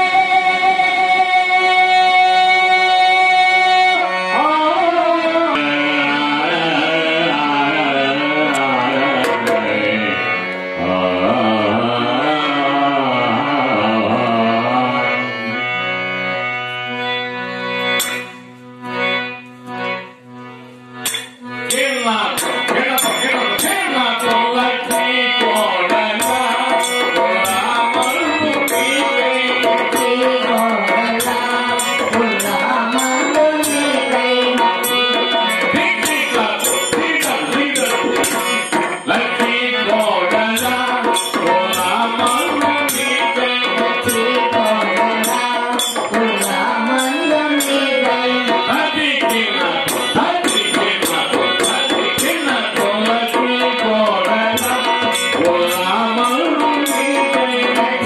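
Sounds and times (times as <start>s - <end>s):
person singing: 0.0s - 16.0s, 21.1s - 58.0s
harmonium chords: 0.0s - 58.0s.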